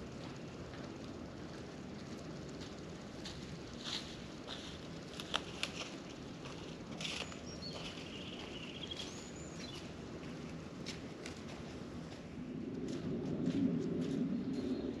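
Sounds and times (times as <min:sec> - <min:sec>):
woodland ambience: 0:00.1 - 0:12.8
footsteps crunching on trail: 0:02.6 - 0:14.8.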